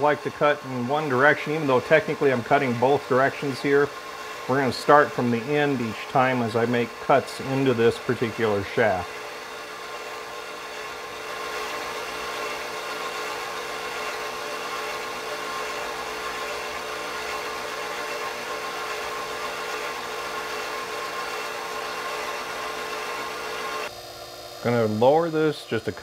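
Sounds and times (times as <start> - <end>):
milling machine humming and whining: 0.0 - 26.0.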